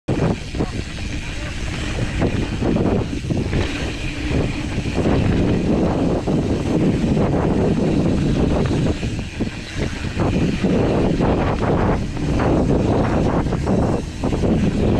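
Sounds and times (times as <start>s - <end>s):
bike rattling over bumps: 0.1s - 14.9s
bike tyres rolling on dirt: 0.1s - 14.9s
wind on microphone: 0.1s - 14.9s.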